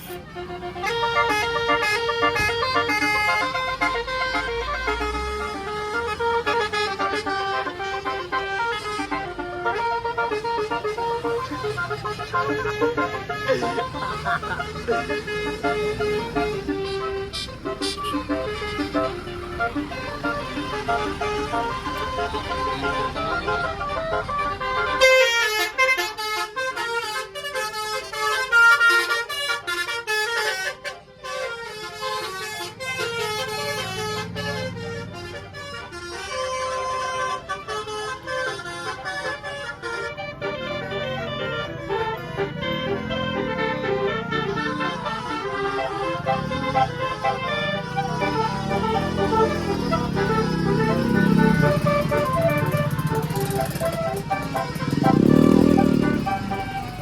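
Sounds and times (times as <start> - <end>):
low engine hum: 0.0 - 30.4, 31.2 - 57.0
bus multi-tone horn melody: 0.0 - 57.0.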